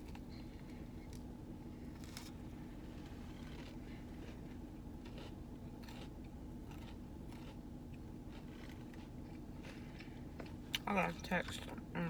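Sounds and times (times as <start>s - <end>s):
crunching bites and chewing: 0.0s - 10.8s
steady low hum: 0.0s - 12.0s.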